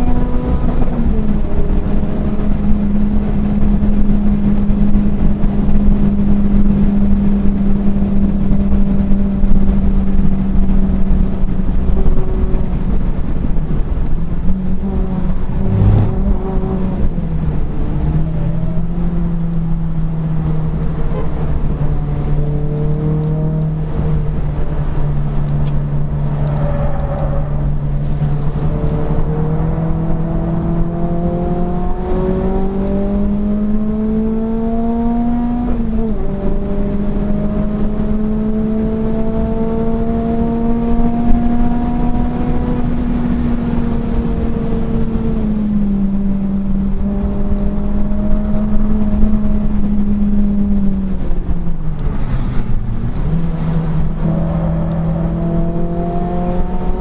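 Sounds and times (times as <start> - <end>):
car engine at speed: 0.0 - 57.0
road and wind noise: 0.0 - 57.0.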